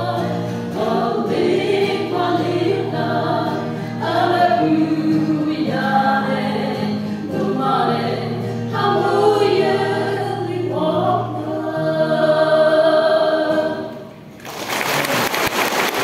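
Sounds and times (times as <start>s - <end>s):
choir singing a hymn: 0.0s - 14.1s.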